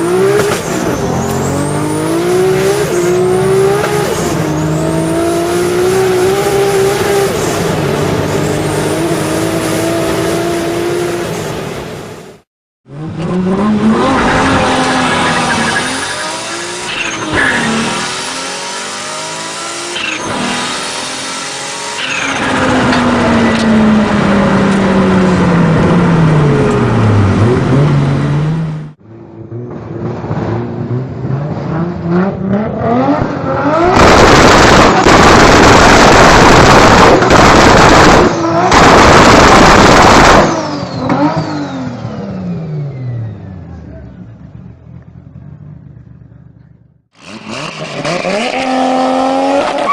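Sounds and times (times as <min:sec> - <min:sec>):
turbocharged engine revving hard: 0:00.0 - 0:11.4, 0:12.9 - 0:29.0, 0:30.8 - 0:42.6, 0:47.2 - 0:49.9.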